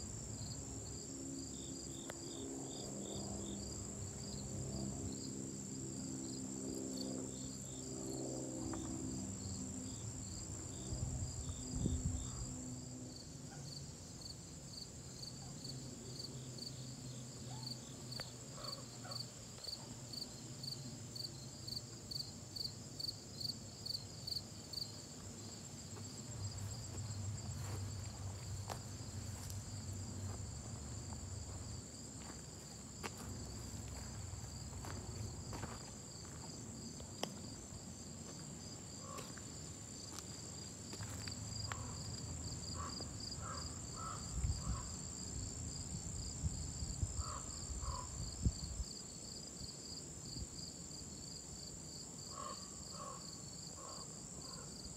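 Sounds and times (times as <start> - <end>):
insect chirping: 0.0 - 54.9.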